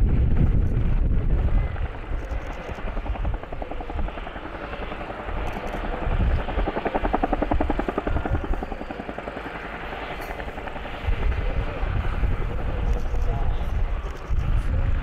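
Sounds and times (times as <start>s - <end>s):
helicopter rotor thumping: 0.0s - 14.7s.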